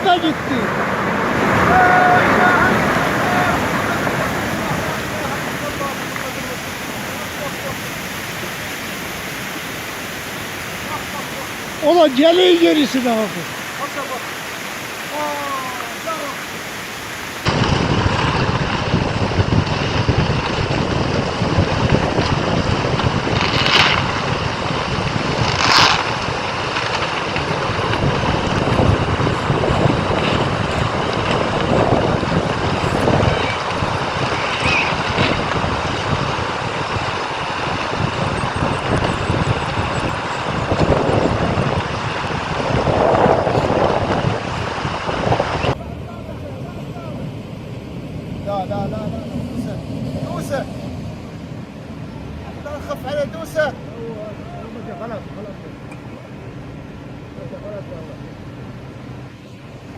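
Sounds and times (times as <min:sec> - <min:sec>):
storm wind buffeting microphone: 0:00.0 - 0:55.3.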